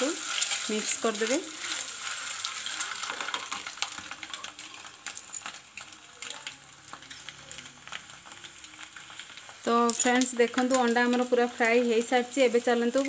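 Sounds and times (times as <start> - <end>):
faint sizzle: 0.0 - 13.0
hot oil crackling and popping: 0.0 - 13.0.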